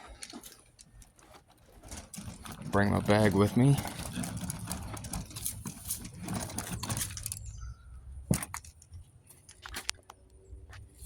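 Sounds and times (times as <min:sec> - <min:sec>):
tool bag rustling and clicking: 0:00.0 - 0:07.7, 0:08.3 - 0:10.2.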